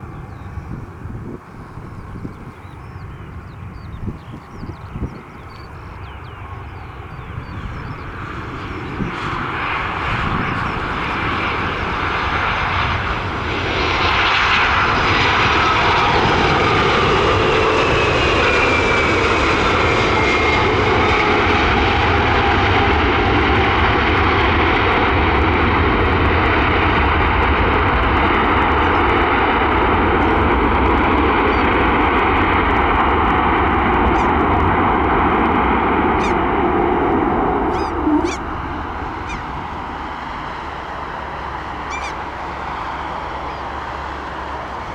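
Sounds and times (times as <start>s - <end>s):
high jet whine: 0.0s - 44.9s
jet engines roaring: 0.0s - 44.9s.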